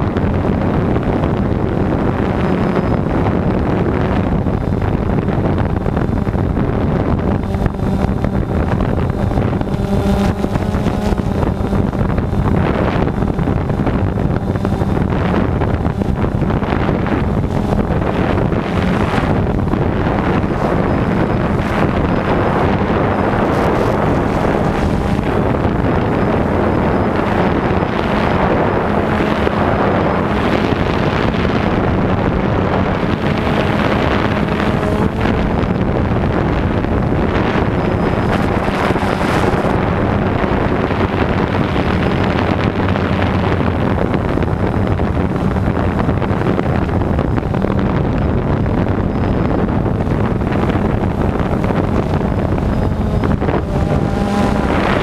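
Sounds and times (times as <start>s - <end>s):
model helicopter rotor and motor drone: 0.0s - 55.0s
wind rushing over microphone: 0.0s - 55.0s.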